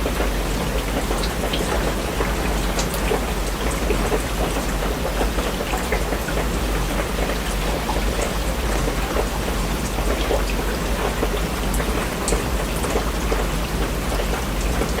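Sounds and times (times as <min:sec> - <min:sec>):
raindrops ticking on a surface: 0:00.0 - 0:15.0.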